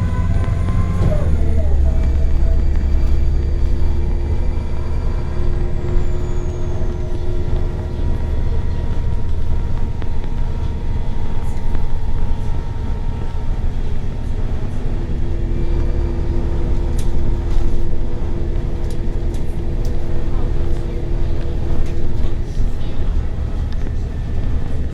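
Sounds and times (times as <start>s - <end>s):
bus engine and road rumble: 0.0s - 24.9s
steady whine: 0.0s - 24.9s.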